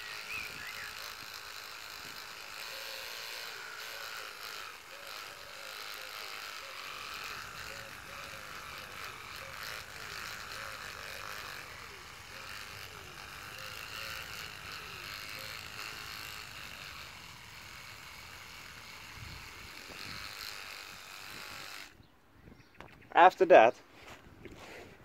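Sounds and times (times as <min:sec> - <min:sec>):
electric toothbrush buzzing: 0:00.0 - 0:22.0.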